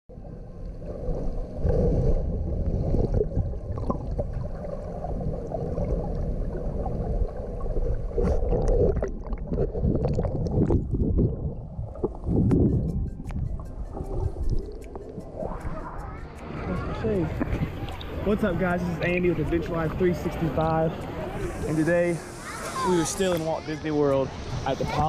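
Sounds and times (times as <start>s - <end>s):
muffled underwater water rumble: 0.1s - 22.9s
underwater bubbling and gurgling: 0.1s - 22.9s.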